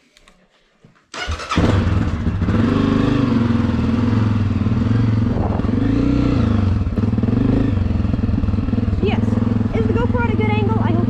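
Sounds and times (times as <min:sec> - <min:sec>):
dirt bike engine idling: 0:01.4 - 0:11.0.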